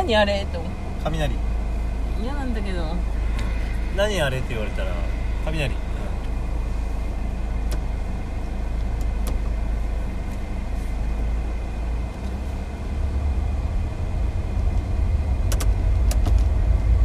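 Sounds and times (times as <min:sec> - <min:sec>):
engine and road noise in car: 0:00.0 - 0:17.0.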